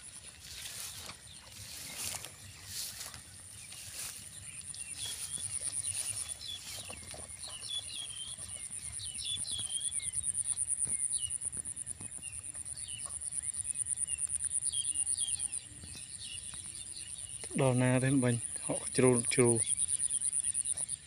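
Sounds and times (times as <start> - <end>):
birds chirping: 0.0 - 21.0
insects pulsing drone: 0.0 - 21.0.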